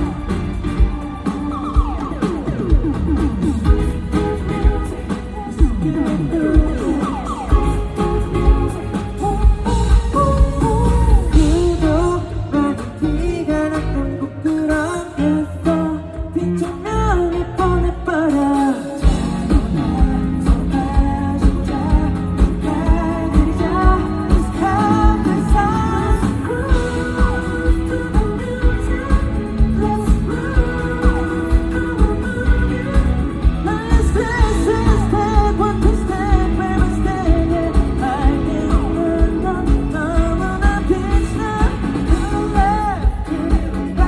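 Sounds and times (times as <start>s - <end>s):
drum kit steady beat: 0.0s - 15.2s, 18.3s - 44.0s
guitar: 0.0s - 44.0s
person singing: 0.0s - 44.0s
pop-rock band performing: 0.0s - 44.0s.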